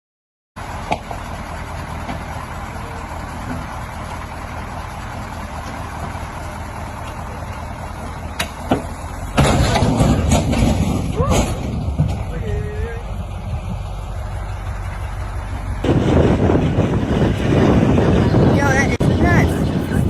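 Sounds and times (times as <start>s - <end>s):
vehicle engine humming: 0.6s - 20.0s.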